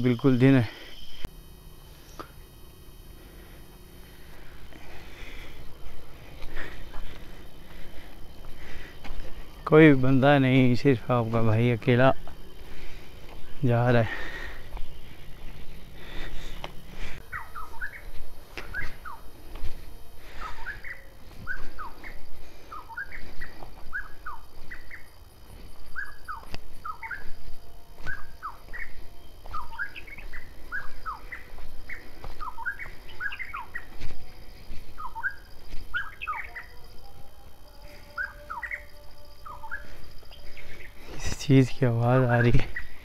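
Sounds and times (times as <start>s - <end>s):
footsteps on rocky trail: 3.6s - 43.0s.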